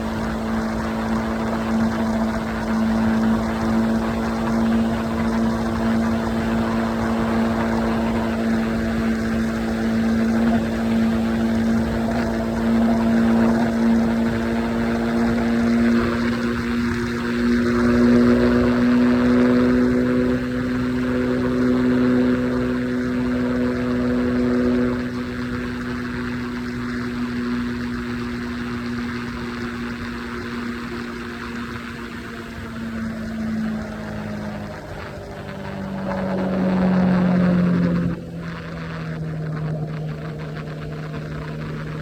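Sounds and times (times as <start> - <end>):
motorcycle engine cruising: 0.0 - 42.0
road noise: 0.0 - 42.0.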